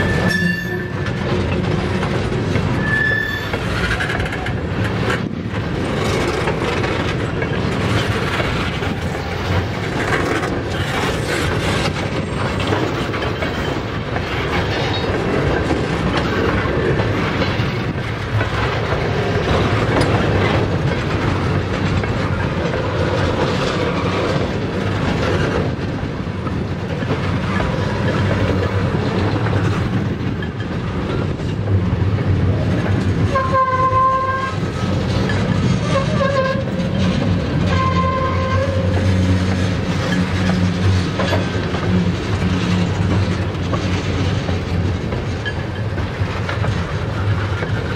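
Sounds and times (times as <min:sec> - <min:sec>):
clickety-clack over rail joints: 0:00.0 - 0:47.9
train wheels rumbling on rail: 0:00.0 - 0:47.9.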